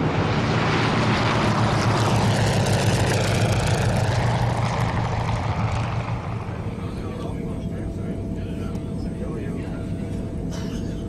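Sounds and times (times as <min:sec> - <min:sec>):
propeller aircraft engines droning: 0:00.0 - 0:11.0.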